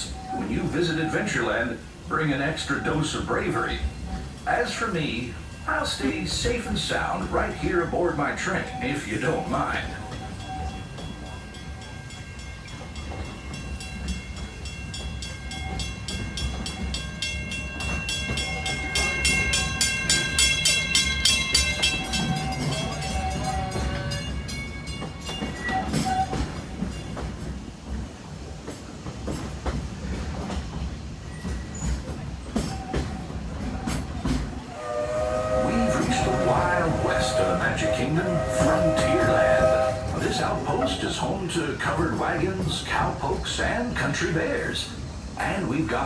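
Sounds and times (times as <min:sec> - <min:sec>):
steam train rumbling on track: 0:00.0 - 0:46.0.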